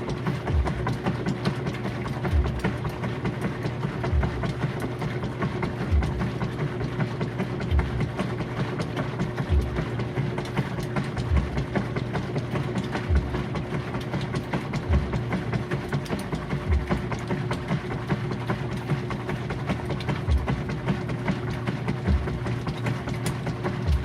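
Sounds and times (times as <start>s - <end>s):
low thumps of load turning: 0.0s - 24.0s
washing machine motor hum: 0.0s - 24.0s.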